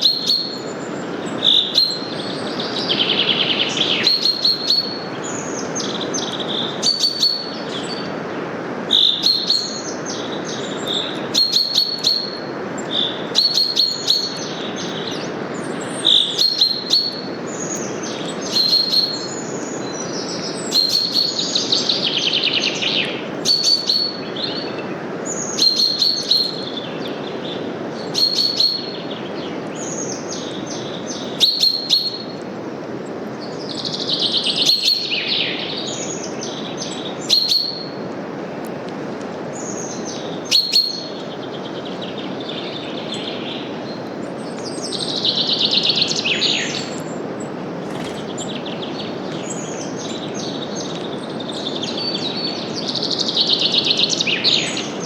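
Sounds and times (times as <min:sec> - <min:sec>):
small birds chirping: 0:00.0 - 0:38.0, 0:39.5 - 0:55.0
wind through leaves: 0:00.0 - 0:55.0.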